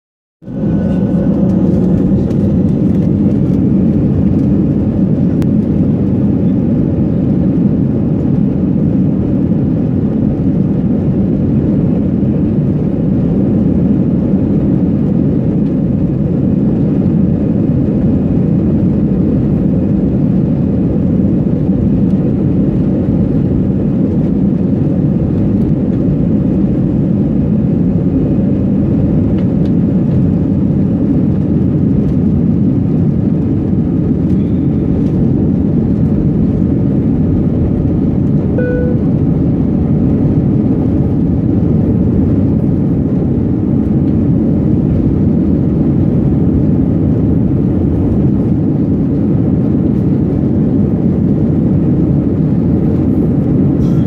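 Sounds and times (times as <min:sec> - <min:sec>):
jet engine rumble in cabin: 0:00.4 - 0:54.0.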